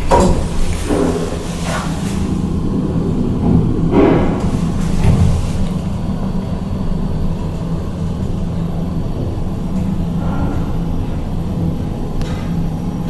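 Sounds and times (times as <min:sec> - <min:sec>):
elevator car low rumble: 0:00.0 - 0:13.0.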